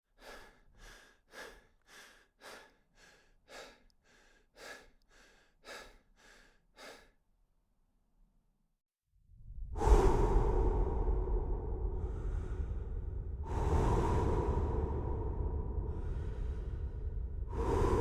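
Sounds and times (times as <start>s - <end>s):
fast deep human breathing: 0.1s - 7.2s, 9.6s - 18.0s.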